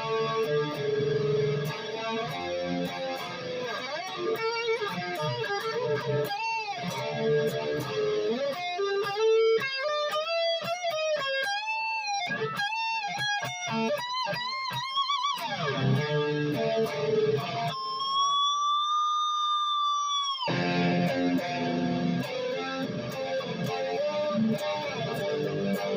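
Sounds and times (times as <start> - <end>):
electric guitar through an amp: 0.0 - 25.9.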